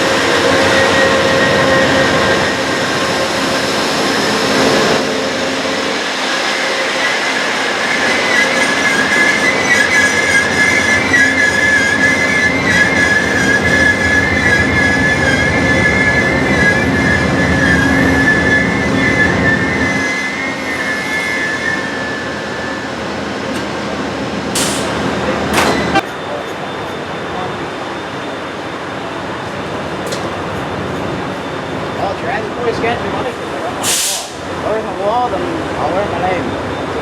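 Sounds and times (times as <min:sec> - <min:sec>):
train rumbling on rails: 0:00.0 - 0:37.0
wheels squealing against rails: 0:00.0 - 0:37.0.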